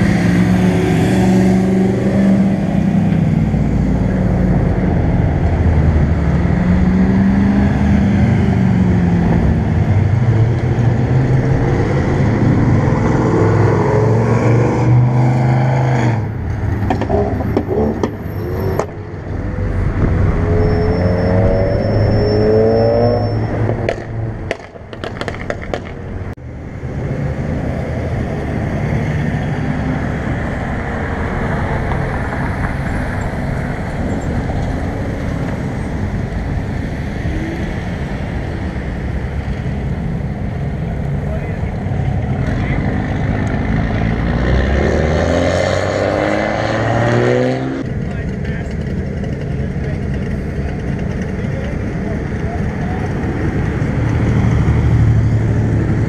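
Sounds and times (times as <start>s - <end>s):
car engine rumble: 0.0s - 44.6s, 47.2s - 56.0s
passing traffic and tyres: 0.0s - 56.0s.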